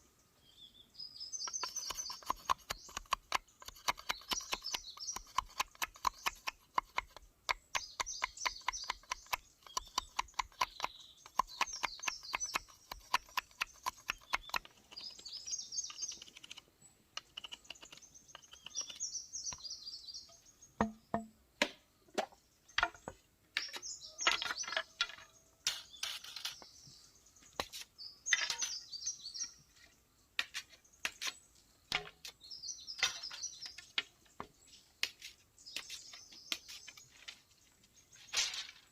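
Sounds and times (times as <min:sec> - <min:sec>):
wild birds singing: 0:00.0 - 0:38.9.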